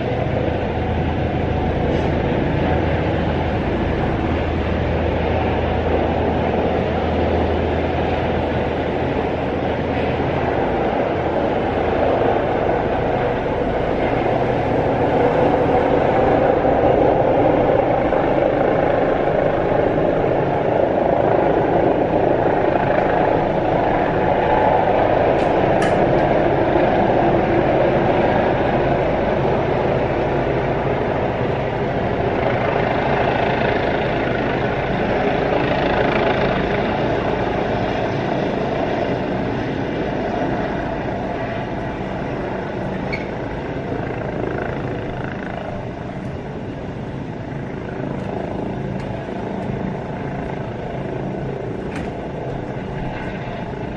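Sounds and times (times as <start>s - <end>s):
helicopter rotor and engine: 0.0s - 53.9s.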